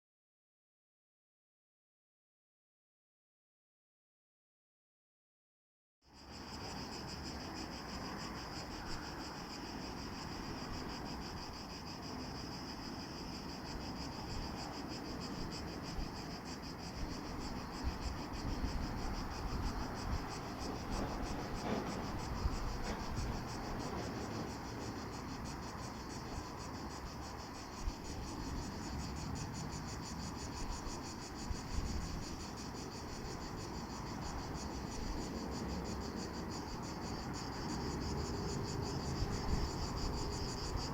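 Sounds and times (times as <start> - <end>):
cicadas buzzing: 6.1 - 40.9.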